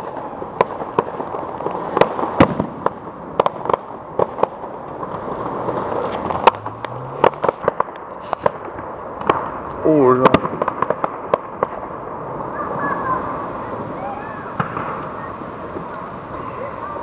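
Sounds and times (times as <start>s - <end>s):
fireworks bangs and pops: 0.0s - 17.0s
steady background noise: 0.0s - 17.0s.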